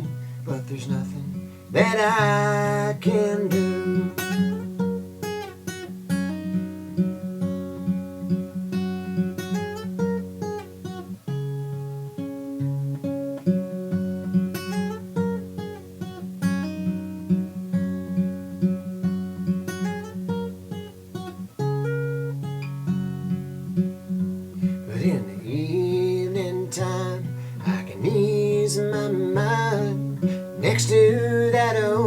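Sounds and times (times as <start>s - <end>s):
acoustic guitar plucked notes: 0.0s - 32.0s.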